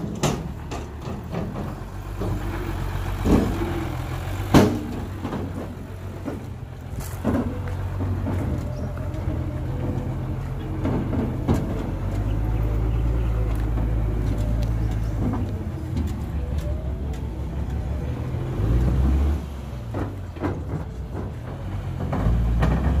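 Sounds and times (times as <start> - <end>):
knocks and clatters: 0.0 - 17.8, 18.7 - 23.0
diesel truck engine rumbling: 0.0 - 23.0.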